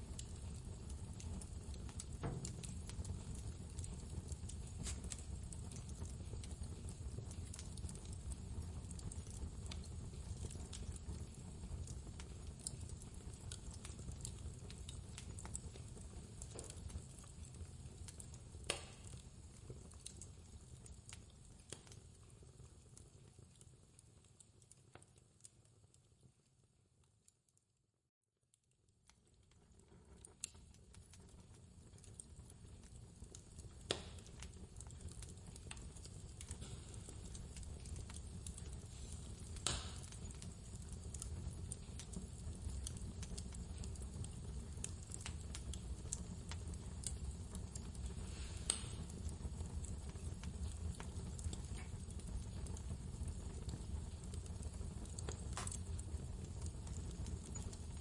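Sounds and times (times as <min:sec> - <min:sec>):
wood fire crackling: 0:00.0 - 0:27.6, 0:28.5 - 0:58.0.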